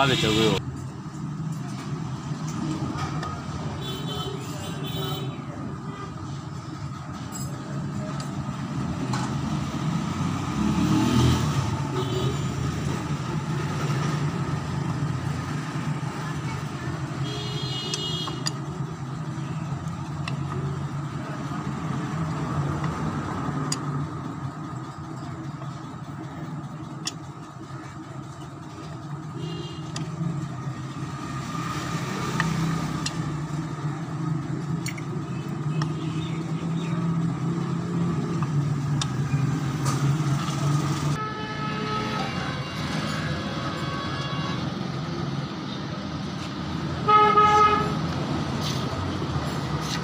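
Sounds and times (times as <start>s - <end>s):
vehicle engines humming: 0.0s - 50.0s.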